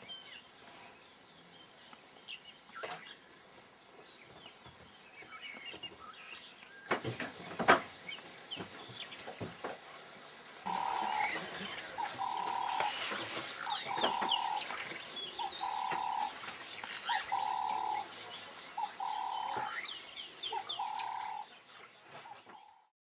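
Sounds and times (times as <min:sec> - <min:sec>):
birds chirping and calling: 0:00.0 - 0:22.9.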